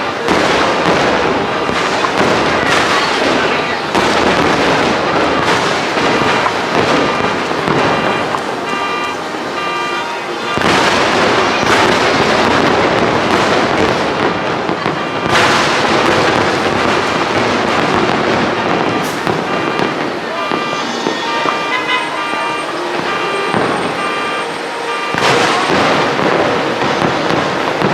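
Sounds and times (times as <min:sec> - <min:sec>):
fireworks bangs and crackling: 0:00.0 - 0:27.9.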